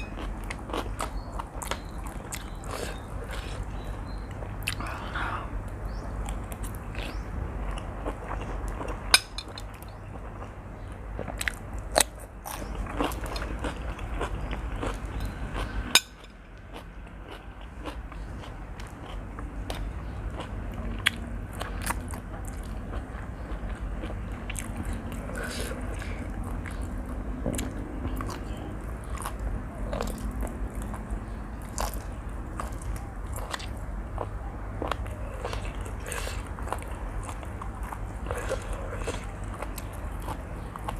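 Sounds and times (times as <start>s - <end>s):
person chewing noodles: 0.0s - 40.9s.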